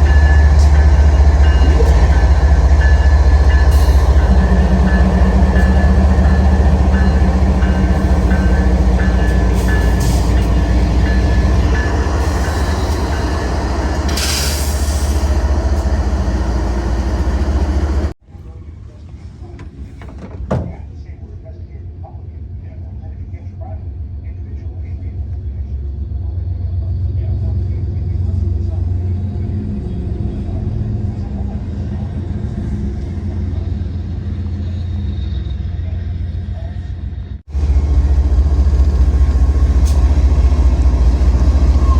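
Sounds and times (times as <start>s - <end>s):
train rumbling past: 0.0s - 18.2s, 23.8s - 41.9s.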